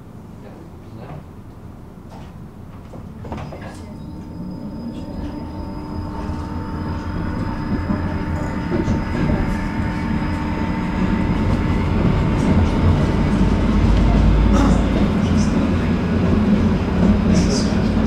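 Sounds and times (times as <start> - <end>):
tram wheels rumbling on rails: 0.1 - 18.0
electrical hum: 2.5 - 18.0.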